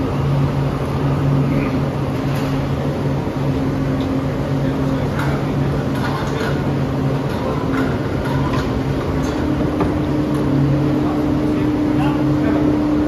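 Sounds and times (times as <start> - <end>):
furnace blower low hum: 0.0 - 13.0.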